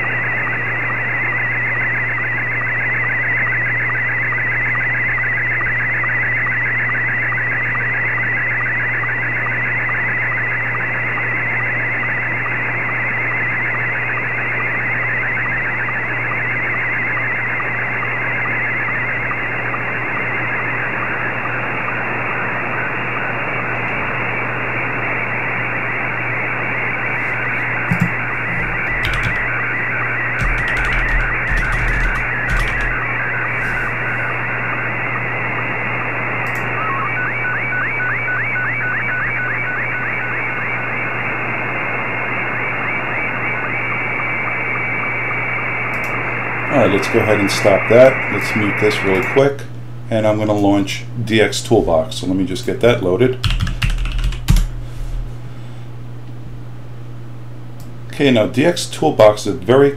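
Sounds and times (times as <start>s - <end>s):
shortwave static: 0.0s - 59.9s
steady low hum: 0.0s - 59.9s
warbling radio signal tones: 0.0s - 59.9s.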